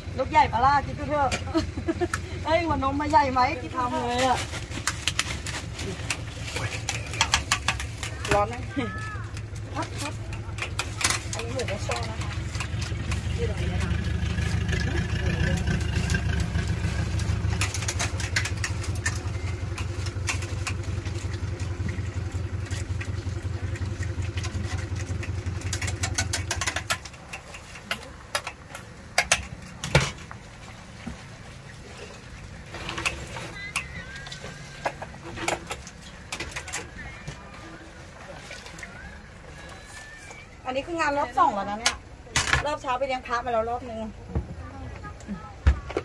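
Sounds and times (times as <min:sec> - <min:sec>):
engine idling: 0:00.0 - 0:44.2.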